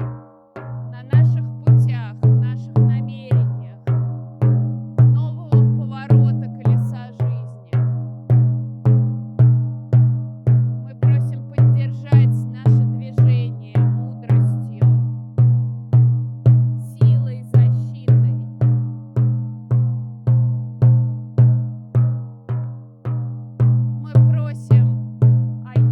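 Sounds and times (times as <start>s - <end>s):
frame drum beating: 0.0s - 25.9s.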